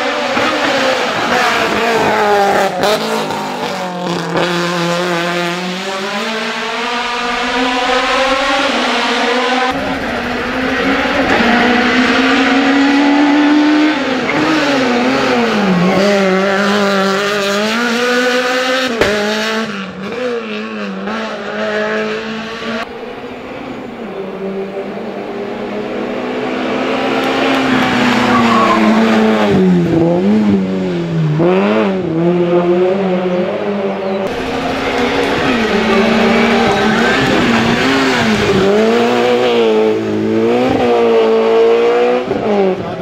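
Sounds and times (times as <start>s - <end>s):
race car engines revving past: 0.0s - 43.0s.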